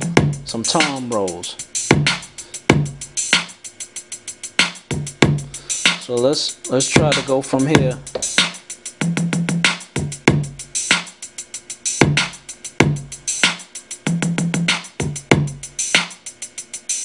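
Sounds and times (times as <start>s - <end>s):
drum machine loop: 0.0s - 17.0s.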